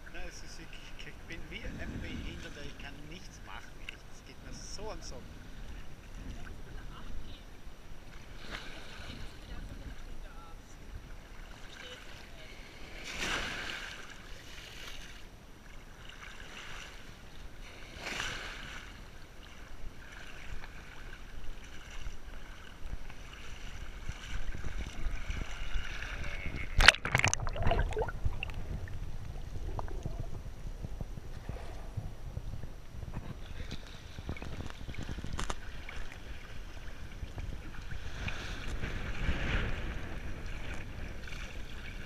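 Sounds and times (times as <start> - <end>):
small waves lapping: 0.1 - 30.4, 33.2 - 42.0
deep water sloshing: 0.4 - 42.0.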